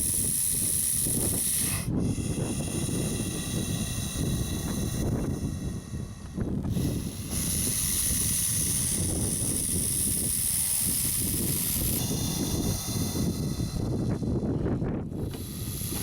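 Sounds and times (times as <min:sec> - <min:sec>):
snake hissing: 0:00.0 - 0:16.0
wind buffeting microphone: 0:00.0 - 0:16.0.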